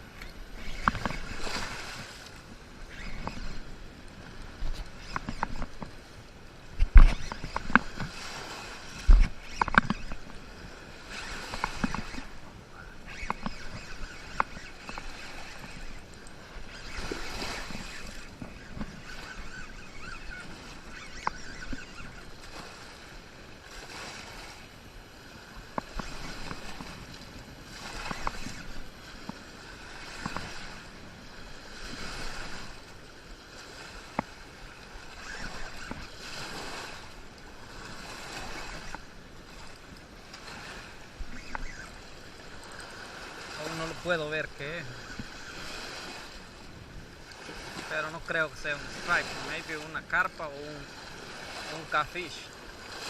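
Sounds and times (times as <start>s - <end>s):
water washing in swells: 0.0s - 53.0s.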